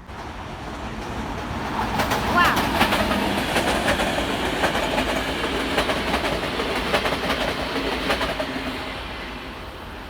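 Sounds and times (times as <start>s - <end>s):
train wheels clacking over rail joints: 0.0s - 9.0s.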